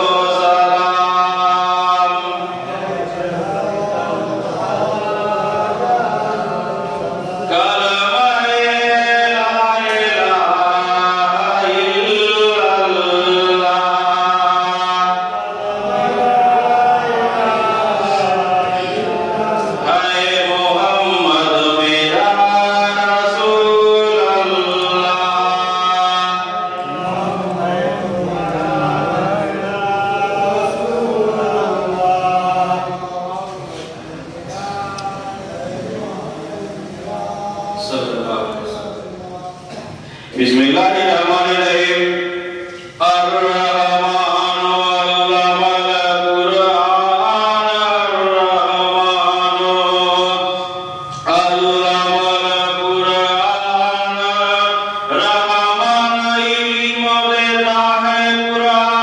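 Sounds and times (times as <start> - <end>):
man chanting: 0.0 - 59.0.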